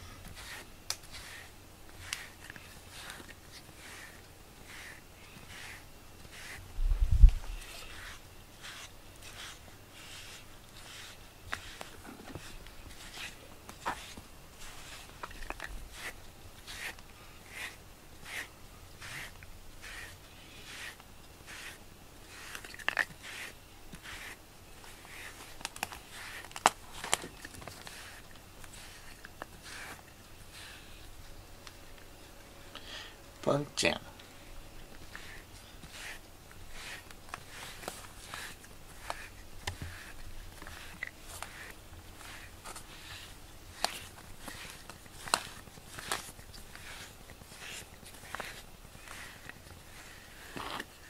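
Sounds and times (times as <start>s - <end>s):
brush swishing through fur: 0.0s - 32.0s, 34.3s - 51.0s.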